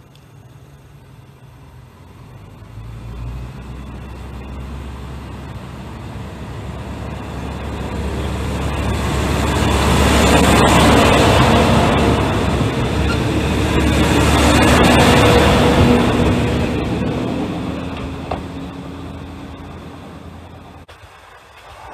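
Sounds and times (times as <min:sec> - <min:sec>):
diesel train engine rumble: 0:00.0 - 0:21.9
train wheel running noise: 0:03.6 - 0:21.9.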